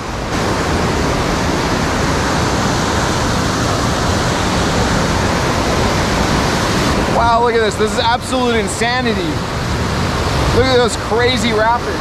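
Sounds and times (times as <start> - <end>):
rapids rushing water: 0.0 - 12.0.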